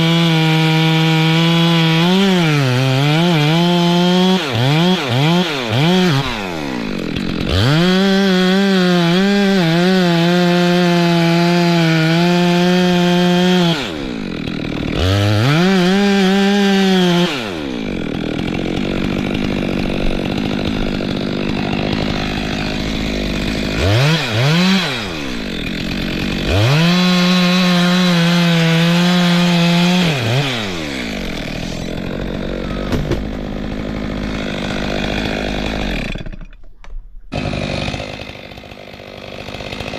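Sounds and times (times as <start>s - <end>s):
chainsaw idling: 0.0s - 36.6s, 37.3s - 39.9s
chainsaw revving: 0.0s - 36.6s, 37.3s - 39.9s.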